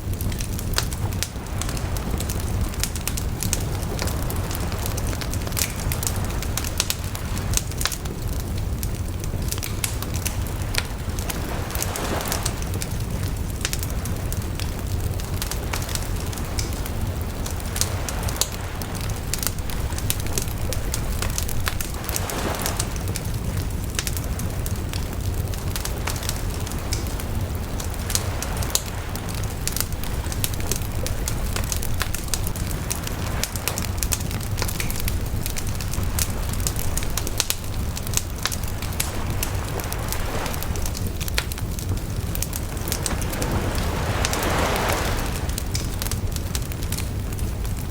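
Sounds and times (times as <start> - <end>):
bonfire crackling: 0.0 - 47.9
hiss of fire: 0.0 - 47.9
low fire rumble: 0.0 - 47.9.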